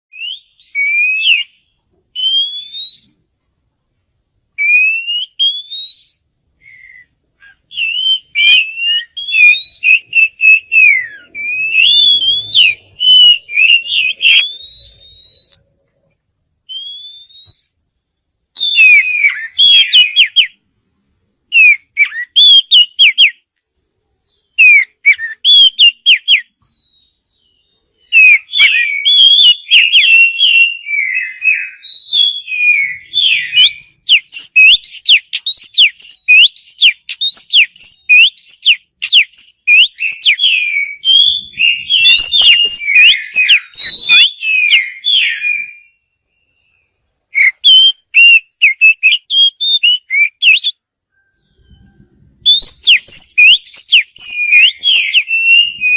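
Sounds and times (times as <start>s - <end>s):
bird singing whistled phrases: 0.1s - 3.2s, 4.6s - 15.7s, 16.6s - 17.8s, 18.6s - 20.6s, 21.5s - 23.4s, 24.2s - 55.9s.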